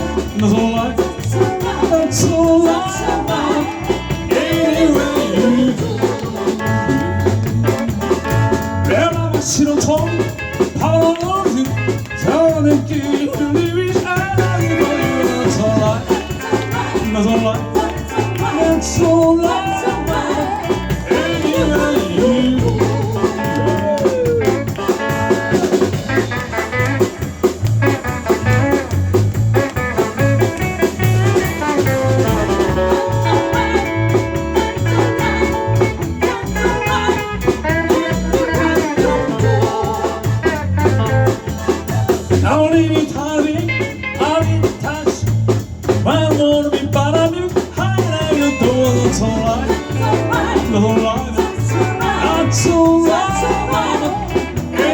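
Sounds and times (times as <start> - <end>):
person singing: 0.0 - 7.8, 8.8 - 26.4, 30.8 - 45.3, 46.1 - 54.9
guitar playing: 0.0 - 45.0, 47.8 - 54.9
bass: 0.0 - 54.9
drum beat: 0.0 - 54.9.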